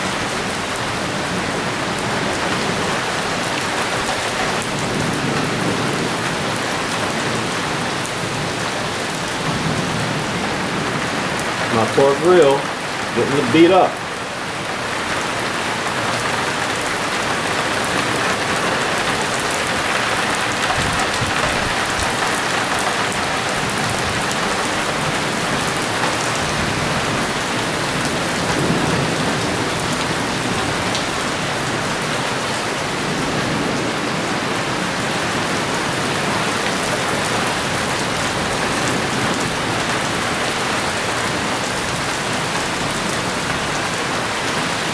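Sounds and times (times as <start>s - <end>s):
hail pattering on concrete: 0.1s - 44.9s.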